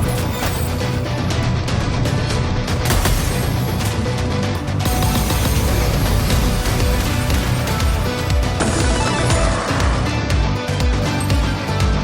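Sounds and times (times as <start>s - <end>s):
bass-heavy slot game music: 0.0s - 12.0s.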